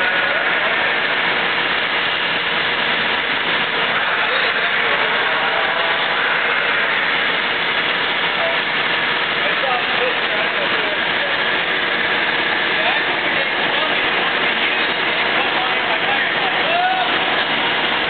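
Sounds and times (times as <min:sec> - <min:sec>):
industrial vacuum rushing: 0:00.0 - 0:18.0.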